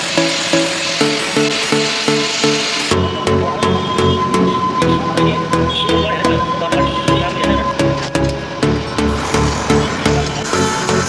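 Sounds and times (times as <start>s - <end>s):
background music with repeating beat: 0.0s - 11.0s.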